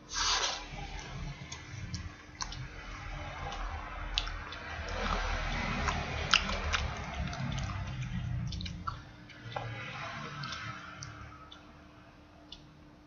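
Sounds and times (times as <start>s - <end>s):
person chewing food: 0.1s - 11.7s.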